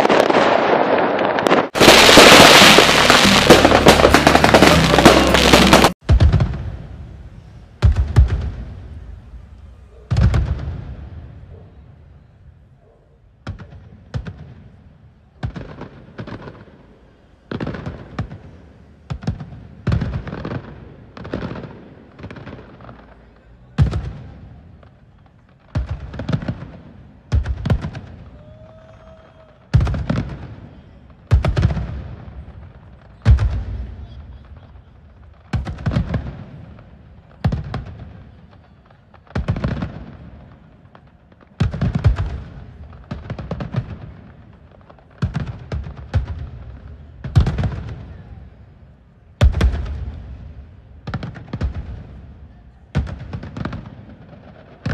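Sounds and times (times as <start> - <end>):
fireworks bursting with sharp bangs: 0.0 - 54.9.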